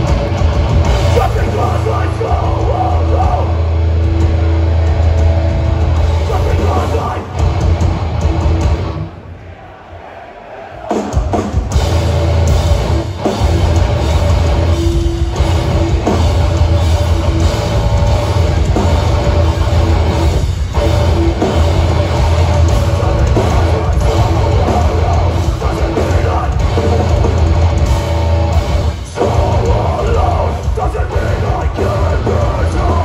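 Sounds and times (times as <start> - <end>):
bass guitar: 0.0 - 9.1, 11.7 - 33.0
heavy distorted guitars: 0.0 - 9.9, 10.6 - 33.0
pounding drum kit: 0.0 - 33.0.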